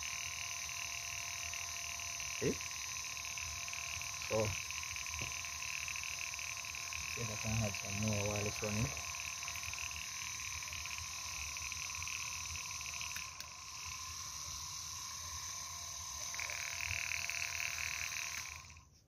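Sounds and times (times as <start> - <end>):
electric pump motor buzzing: 0.0 - 19.0.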